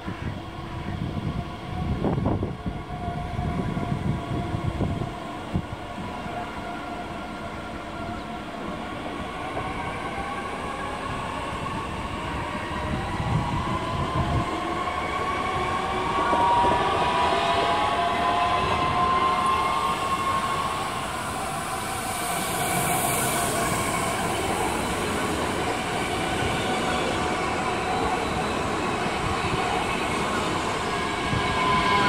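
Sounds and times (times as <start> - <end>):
train wheels rumbling on track: 0.1 - 32.0.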